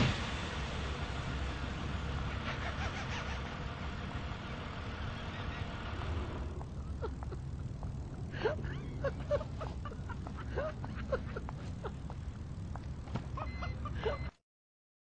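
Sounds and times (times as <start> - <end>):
road noise hiss: 0.0 - 14.2
car engine rumble: 0.0 - 14.3.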